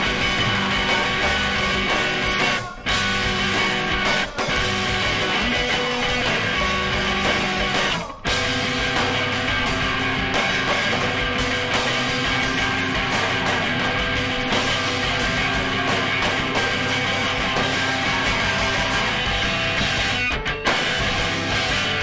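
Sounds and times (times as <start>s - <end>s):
guitar-led rock music: 0.0s - 22.0s.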